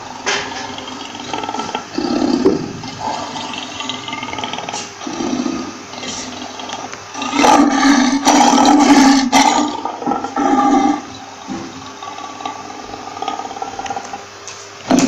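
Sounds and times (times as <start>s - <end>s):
lion roaring: 0.0s - 14.3s.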